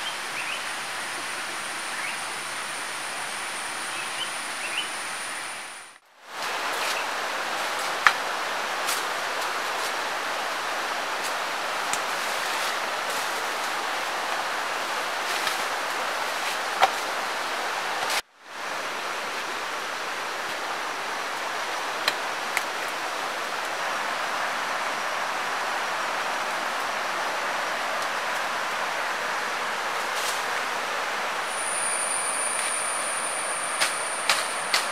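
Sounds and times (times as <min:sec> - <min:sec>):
stream rushing: 0:00.0 - 0:34.9.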